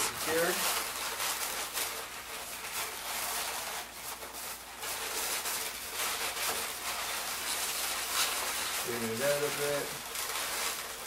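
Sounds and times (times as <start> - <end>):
balloons rubbing together: 0.0 - 11.0.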